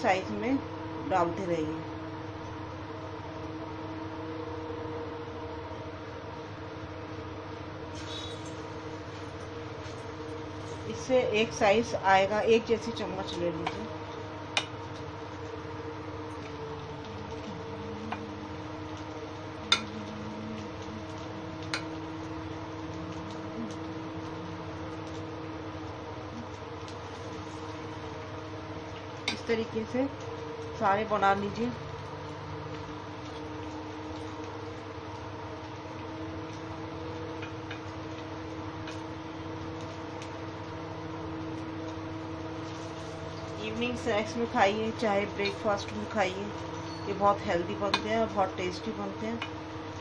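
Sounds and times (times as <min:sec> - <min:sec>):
food deep-frying in oil: 0:00.0 - 0:50.0
low hum: 0:00.0 - 0:50.0.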